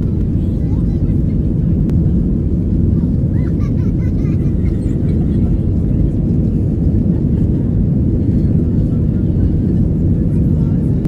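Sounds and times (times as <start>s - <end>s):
aircraft cabin engine rumble: 0.0s - 11.0s
faint voices: 0.0s - 11.0s.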